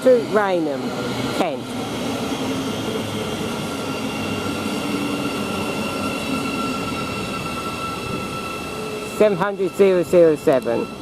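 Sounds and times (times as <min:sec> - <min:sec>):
electric train humming and whining: 0:00.0 - 0:11.0.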